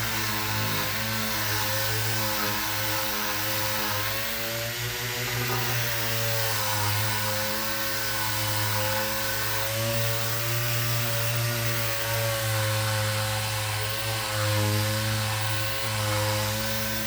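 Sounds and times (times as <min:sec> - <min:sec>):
electric power sander running: 0:00.0 - 0:17.0.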